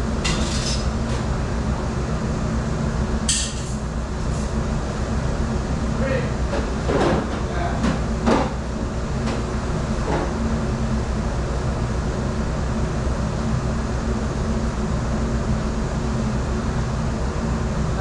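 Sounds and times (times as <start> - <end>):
kitchen machinery drone: 0.0 - 18.0.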